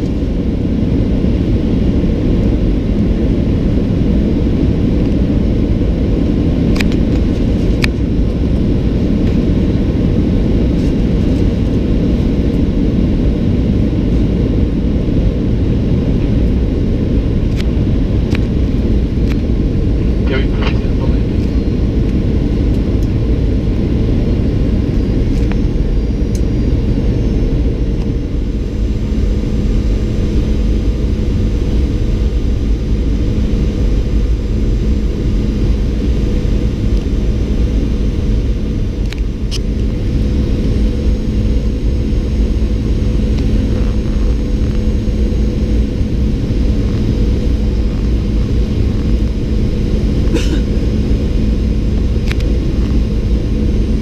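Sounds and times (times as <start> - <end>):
airplane cabin rumble: 0.0 - 54.0
steady low hum: 0.0 - 54.0.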